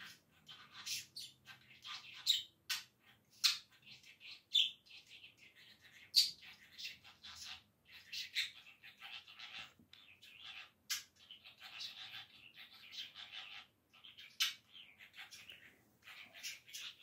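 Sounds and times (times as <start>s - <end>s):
budgerigar chirping: 0.0s - 17.0s.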